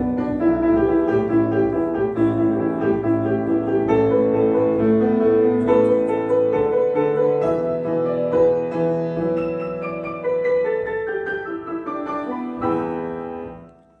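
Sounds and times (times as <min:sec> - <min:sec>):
piano playing: 0:00.0 - 0:14.0.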